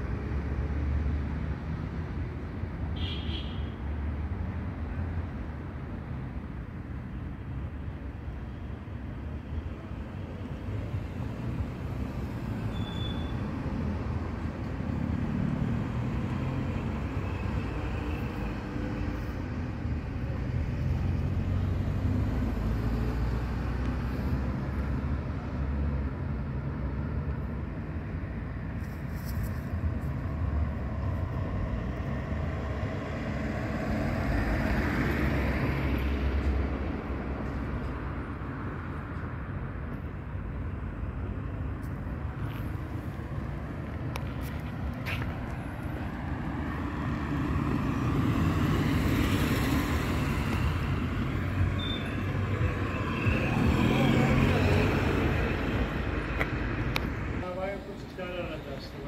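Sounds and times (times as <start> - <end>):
street traffic rumble: 0.0 - 59.0.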